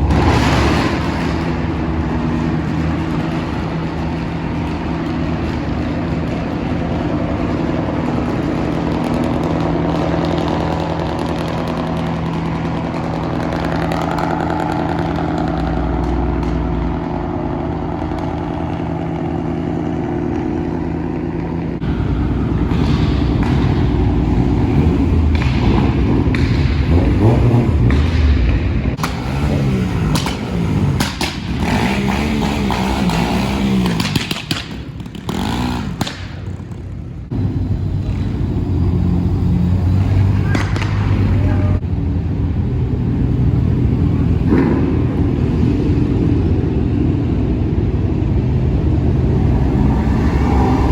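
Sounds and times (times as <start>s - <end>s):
vehicle engine revving: 0.0s - 50.9s.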